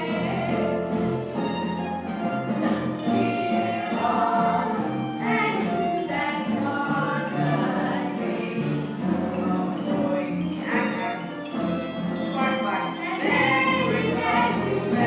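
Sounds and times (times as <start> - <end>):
group singing musical number: 0.0 - 15.0
instrumental accompaniment: 0.0 - 15.0.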